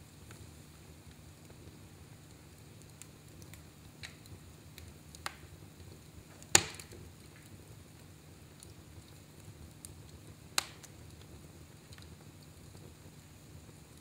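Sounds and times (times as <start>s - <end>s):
fire rumbling in fireplace: 0.0s - 14.0s
sharp fire crackles: 0.0s - 14.0s.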